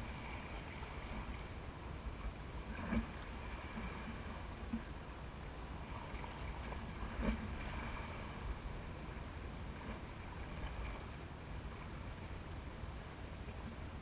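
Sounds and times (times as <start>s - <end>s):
water noise: 0.0s - 14.0s.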